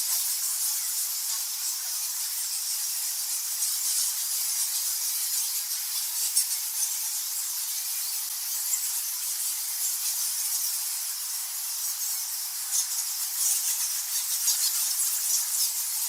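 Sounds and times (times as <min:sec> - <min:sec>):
bats squeaking and chittering: 0:00.0 - 0:16.0.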